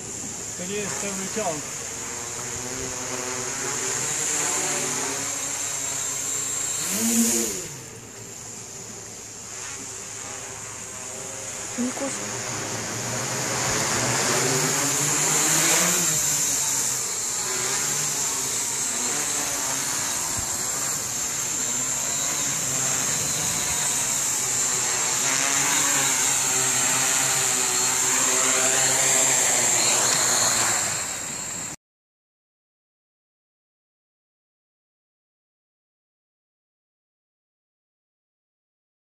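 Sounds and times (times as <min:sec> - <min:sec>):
drone motors buzzing: 0:00.0 - 0:31.8
steady high whine: 0:00.0 - 0:31.8.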